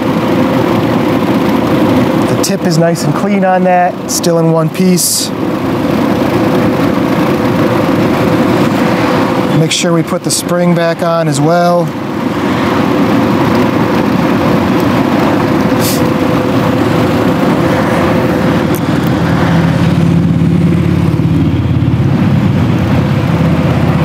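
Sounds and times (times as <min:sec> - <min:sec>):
deep engine drone: 0:00.0 - 0:24.0
vehicle engine hum: 0:00.0 - 0:24.0.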